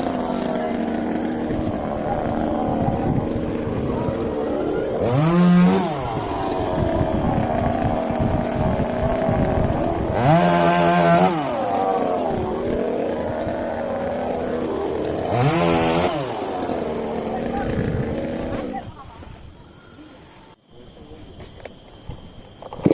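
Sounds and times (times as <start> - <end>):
chainsaw revving: 0.0 - 19.2, 22.7 - 22.9.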